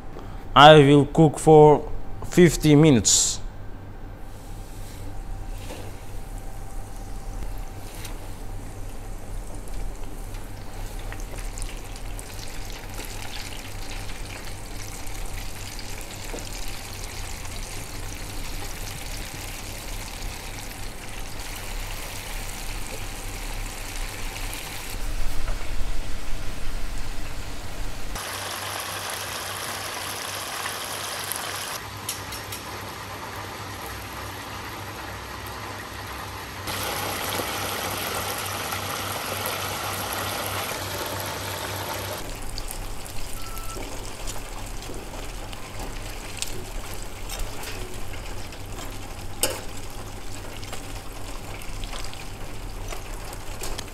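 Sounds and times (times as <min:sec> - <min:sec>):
chicken sizzling in deep fryer oil: 0:06.9 - 0:25.0, 0:28.1 - 0:53.9.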